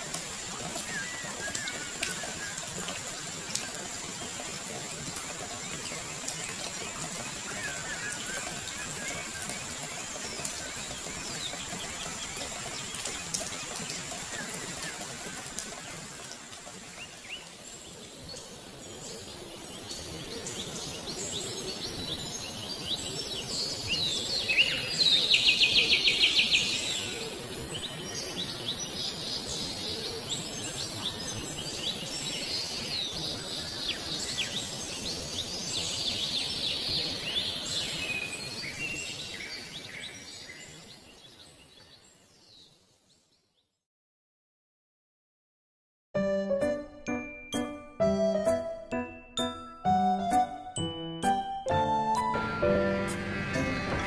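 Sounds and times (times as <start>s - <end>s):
birds chirping: 0.0s - 42.8s, 46.6s - 54.0s.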